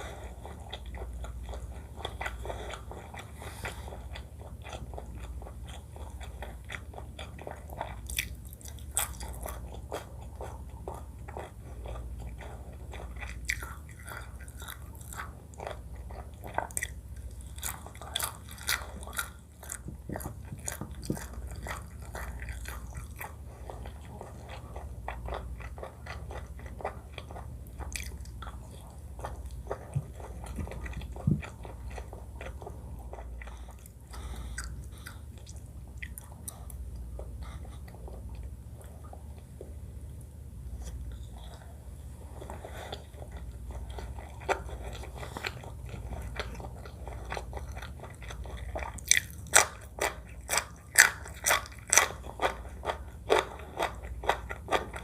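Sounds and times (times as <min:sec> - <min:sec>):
chewing and biting: 0:00.0 - 0:39.7, 0:42.4 - 0:55.0.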